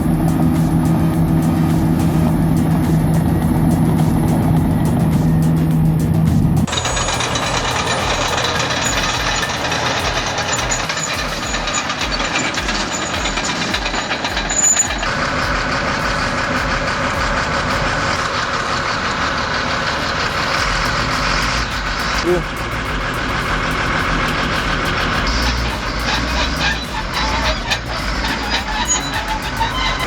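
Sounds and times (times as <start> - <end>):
bulldozer diesel engine: 0.0 - 30.0
rapid metallic clatter: 0.0 - 30.0.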